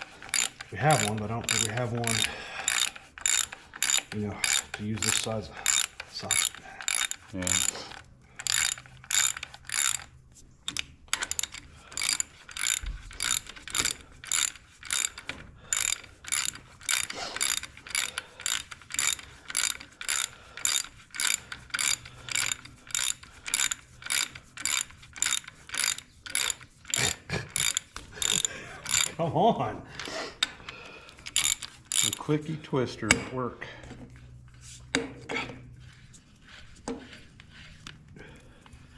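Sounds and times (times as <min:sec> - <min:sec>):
socket ratchet clicking: 0:00.0 - 0:29.2, 0:30.4 - 0:33.3.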